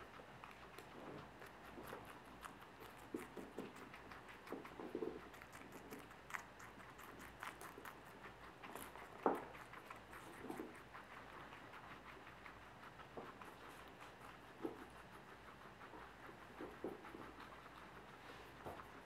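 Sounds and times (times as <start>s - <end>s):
guinea pigs chewing: 0.0s - 19.0s.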